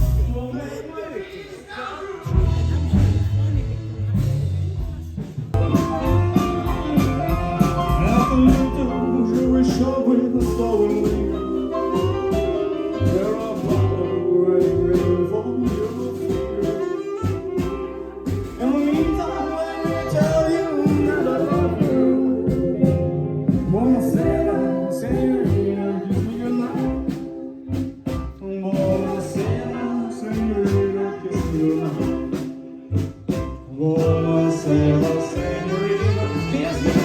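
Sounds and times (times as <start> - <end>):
jazzy guitar: 0.0 - 0.6, 2.2 - 37.0
person singing: 5.6 - 27.8, 28.4 - 33.0, 33.7 - 37.0.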